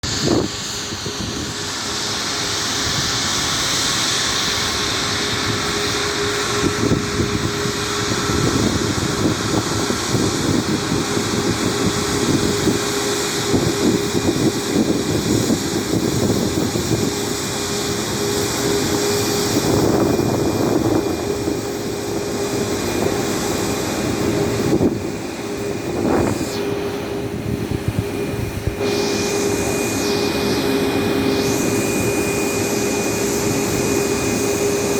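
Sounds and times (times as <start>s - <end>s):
high whine: 0.0s - 34.9s
jet engine rushing: 0.0s - 34.9s.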